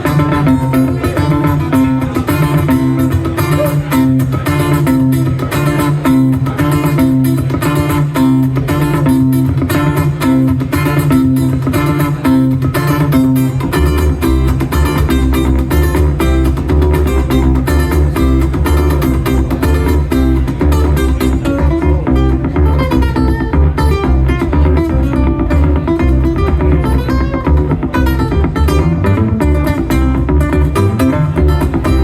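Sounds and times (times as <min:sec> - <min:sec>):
low bass part: 0:00.0 - 0:32.0
picked guitars: 0:00.0 - 0:32.0.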